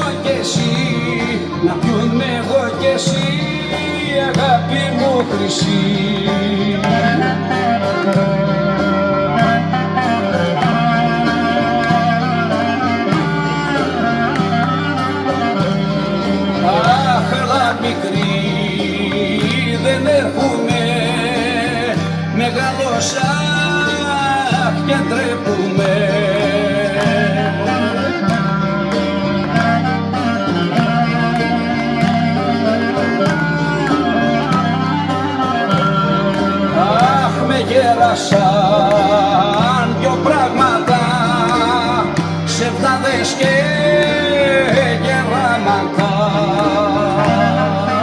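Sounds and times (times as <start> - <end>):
folk dance music: 0.0 - 48.0
wavering instrumental melody: 0.0 - 48.0.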